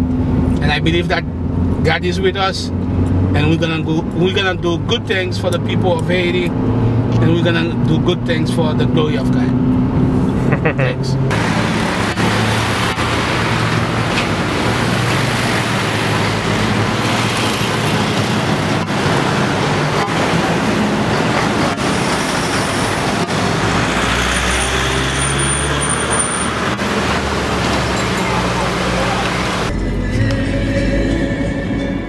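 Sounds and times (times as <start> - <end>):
car engine hum: 0.0 - 32.0.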